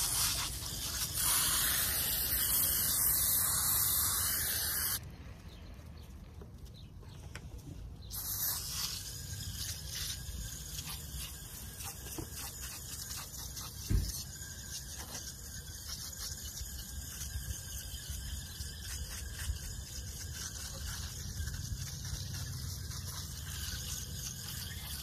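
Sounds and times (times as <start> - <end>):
aerosol can spraying: 0.0 - 5.0, 8.1 - 25.0.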